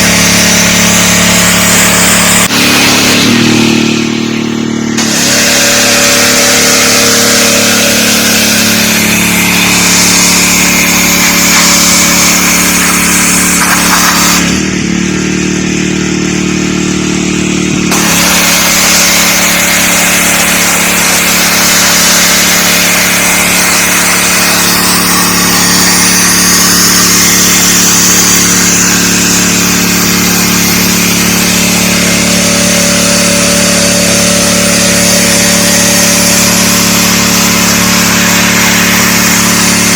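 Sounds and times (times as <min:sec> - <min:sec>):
high-pressure spray hissing: 0:00.0 - 0:14.8, 0:17.9 - 0:39.9
pressure washer engine running: 0:00.0 - 0:39.9.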